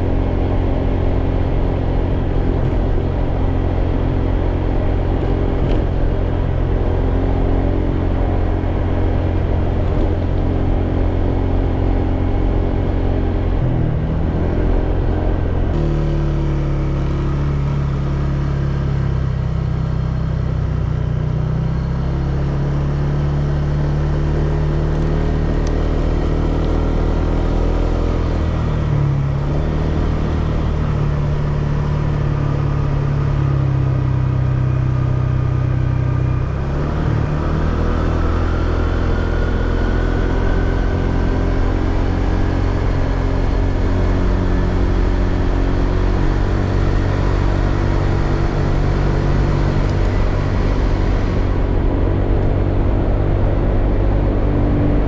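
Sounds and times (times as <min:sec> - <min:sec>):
road and wind rumble: 0:00.0 - 0:55.0.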